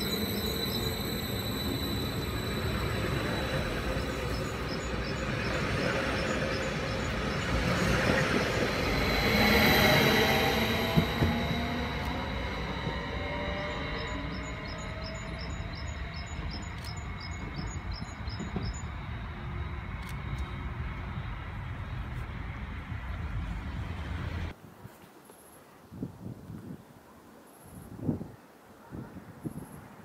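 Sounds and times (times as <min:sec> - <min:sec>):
electric train motors whining: 0:00.0 - 0:24.5.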